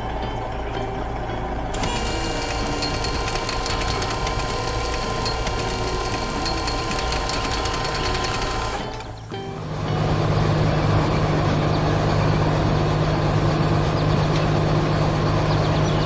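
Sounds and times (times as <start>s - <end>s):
machine engine rattling: 1.6s - 16.0s.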